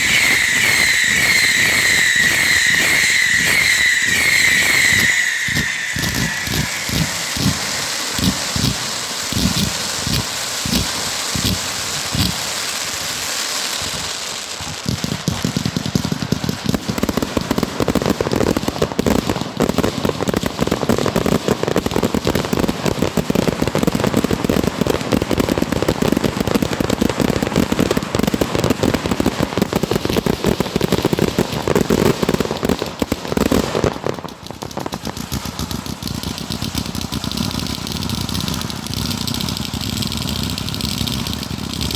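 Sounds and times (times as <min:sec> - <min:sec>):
firework booms: 0:00.0 - 0:41.9
firework crackle: 0:00.0 - 0:41.9.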